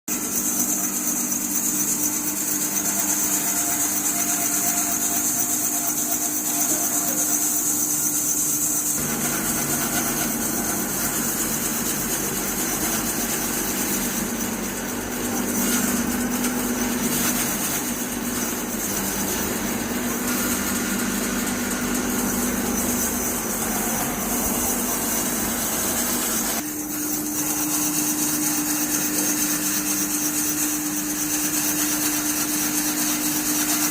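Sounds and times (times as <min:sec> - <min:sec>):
powered saw cutting timber: 0:00.1 - 0:33.9.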